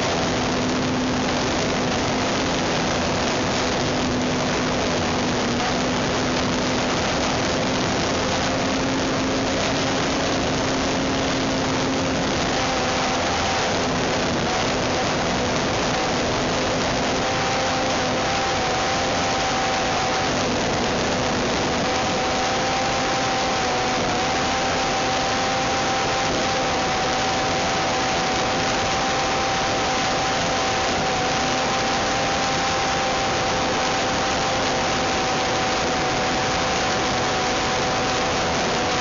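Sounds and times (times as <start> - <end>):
model airplane engine buzzing: 0.0 - 39.0.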